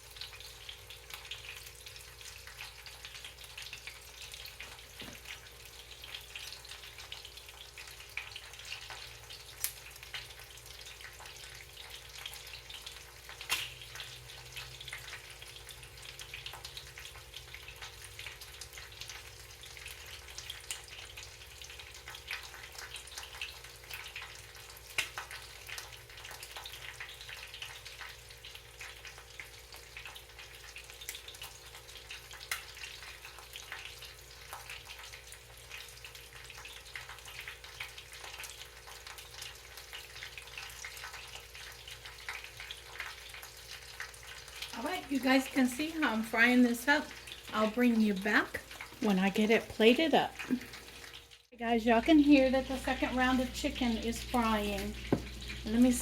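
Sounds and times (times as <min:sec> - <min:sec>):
chicken frying in hot oil: 0:00.0 - 0:56.0.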